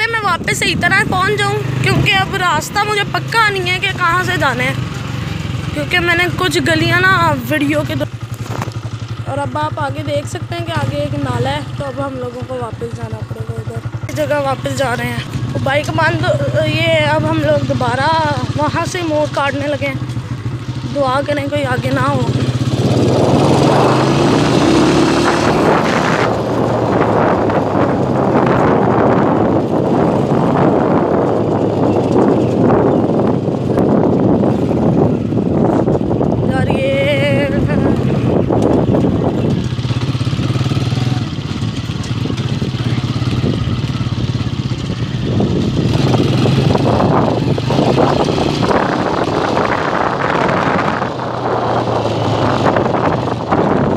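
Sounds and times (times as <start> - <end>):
motorcycle engine running: 0.0 - 53.9
wind buffeting microphone: 0.0 - 53.9.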